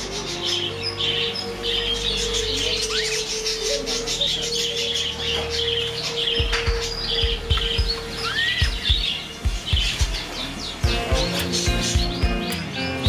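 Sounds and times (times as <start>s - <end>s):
budgerigars chirping: 0.0s - 13.0s
steady low held tone: 0.0s - 13.0s.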